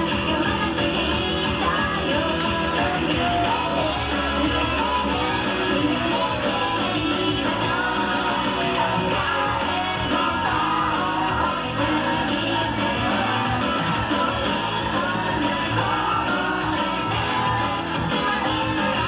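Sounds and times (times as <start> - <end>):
person singing: 0.0 - 19.0
rock band playing: 0.0 - 19.0.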